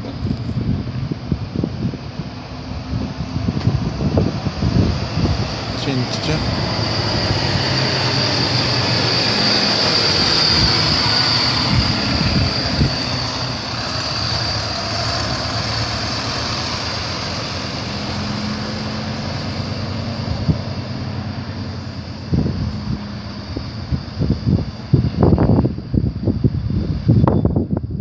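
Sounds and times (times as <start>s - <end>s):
bus engine driving away: 0.0s - 25.7s
high steady whine: 0.0s - 28.0s.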